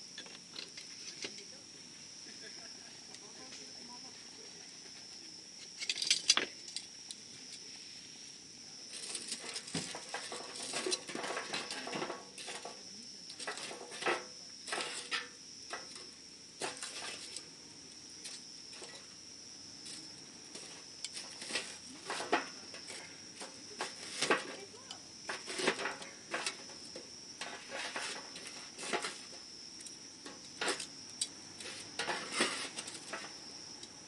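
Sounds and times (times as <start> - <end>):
high-pitched hiss: 0.0 - 34.0.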